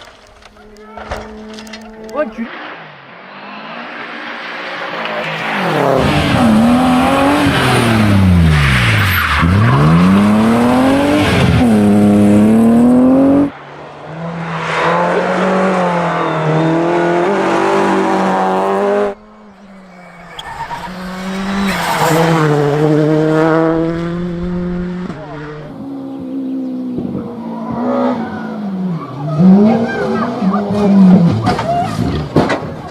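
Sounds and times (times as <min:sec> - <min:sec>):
rally car engines at full throttle: 0:00.0 - 0:32.9.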